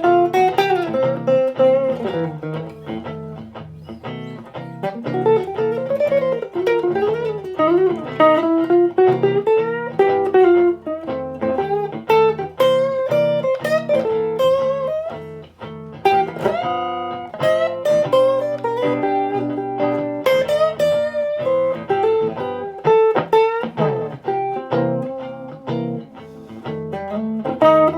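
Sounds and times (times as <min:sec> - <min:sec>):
electric guitar backing part: 0:00.0 - 0:27.9
electric guitar lead line: 0:00.0 - 0:27.9.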